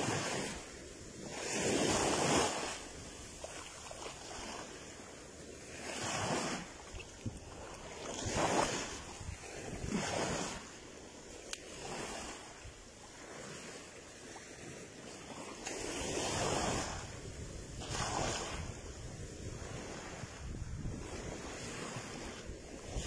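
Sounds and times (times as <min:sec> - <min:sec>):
wind rumbling on microphone: 0:00.0 - 0:13.8, 0:14.6 - 0:23.0
sea waves washing ashore: 0:00.0 - 0:23.0.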